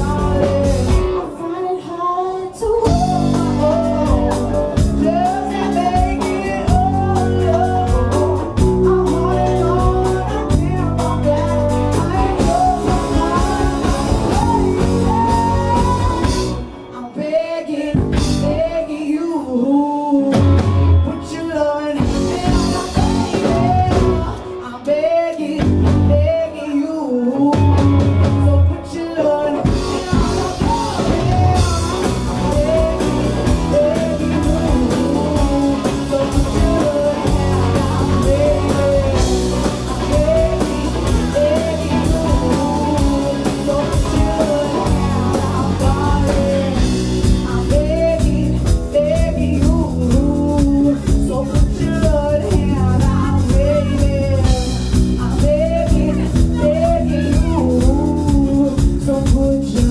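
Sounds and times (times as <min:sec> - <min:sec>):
drum kit: 0:00.0 - 0:01.5, 0:02.6 - 0:19.2, 0:20.2 - 0:59.9
bass guitar: 0:00.0 - 0:01.6, 0:02.6 - 0:59.9
electric guitars: 0:00.0 - 0:59.9
woman singing: 0:00.0 - 0:59.9.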